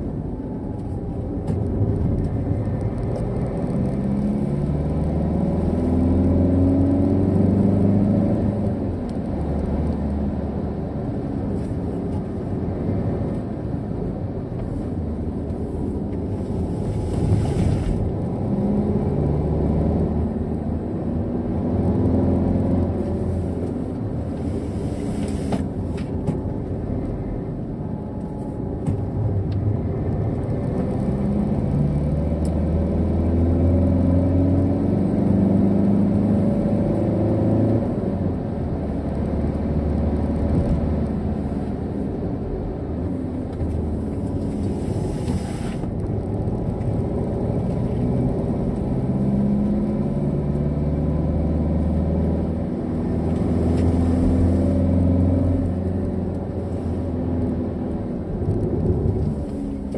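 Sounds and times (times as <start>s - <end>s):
car engine accelerating: 0.0s - 14.1s, 14.7s - 59.9s
tyre and road noise: 0.0s - 59.9s.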